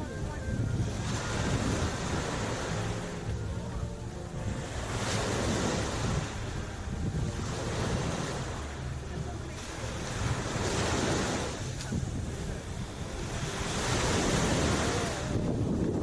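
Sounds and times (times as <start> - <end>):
sea waves washing onto shore: 0.0 - 16.0
wind buffeting microphone: 0.0 - 16.0.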